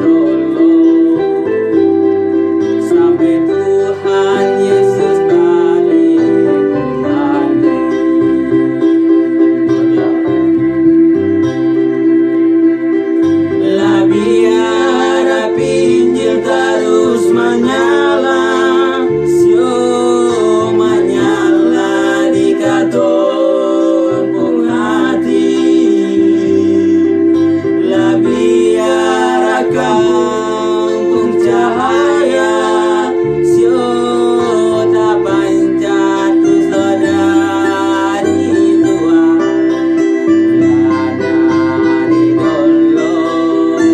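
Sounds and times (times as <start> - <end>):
gospel singing: 0.0 - 43.9
guitar accompaniment: 0.0 - 43.9.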